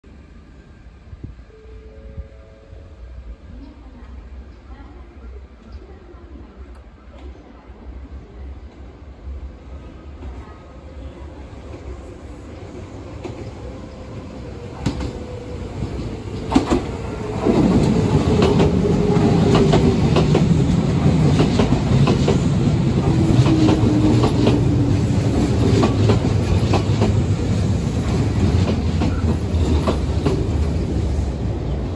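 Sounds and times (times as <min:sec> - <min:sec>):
electric train rumbling: 0:00.0 - 0:31.9.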